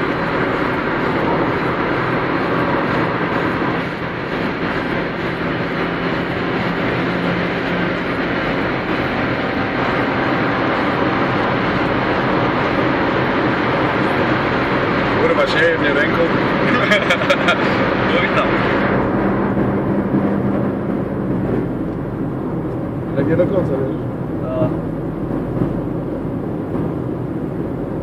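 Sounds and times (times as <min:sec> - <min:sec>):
car engine at high revs: 0:00.0 - 0:28.0
road and wind noise: 0:00.0 - 0:28.0.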